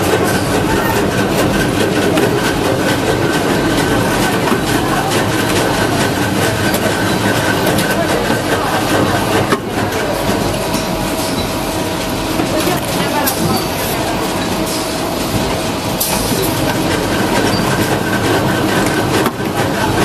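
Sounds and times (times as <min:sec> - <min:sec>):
machinery clattering: 0:00.0 - 0:20.0
steady mechanical din: 0:00.0 - 0:20.0.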